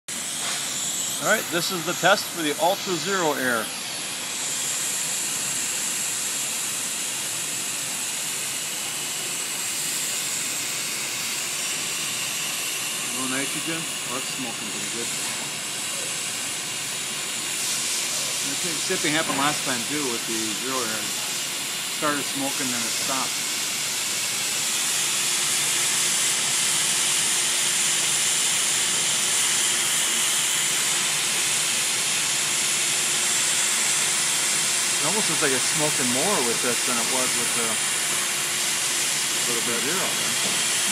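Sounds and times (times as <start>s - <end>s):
hot-air gun blowing hiss: 0.1s - 40.9s.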